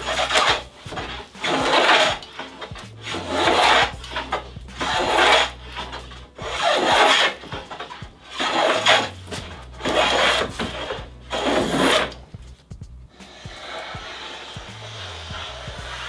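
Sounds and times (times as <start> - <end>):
hand plane cutting wood: 0.0 - 12.4, 13.1 - 16.0.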